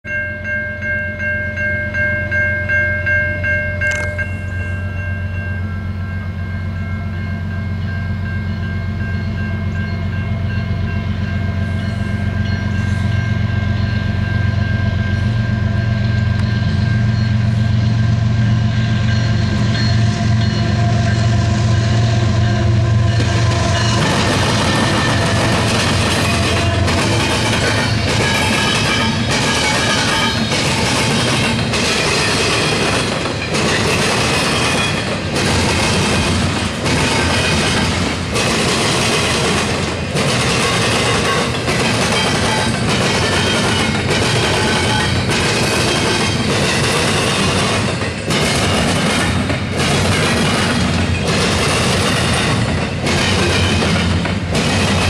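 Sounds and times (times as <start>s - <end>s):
crossing warning bell ringing: 0.0s - 55.0s
diesel locomotive engine rumble: 0.1s - 55.0s
wheels rolling on rail: 0.1s - 55.0s.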